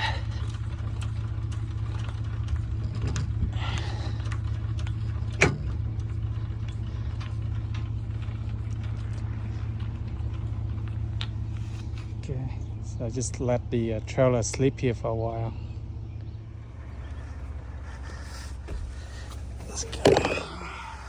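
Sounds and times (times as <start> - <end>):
pickup truck engine idling: 0.0 - 21.0.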